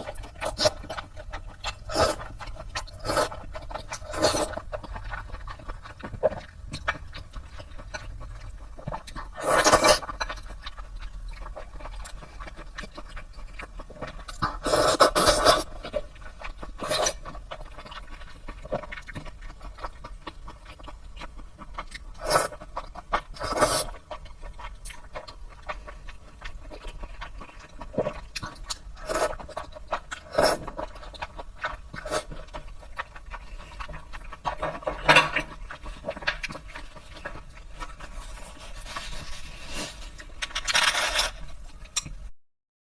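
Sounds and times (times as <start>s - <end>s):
person slurping and chewing noodles: 0.0s - 42.0s.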